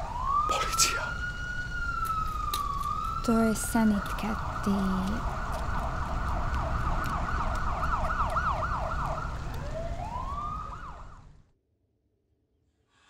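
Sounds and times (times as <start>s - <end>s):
ambulance siren wailing: 0.0s - 11.4s.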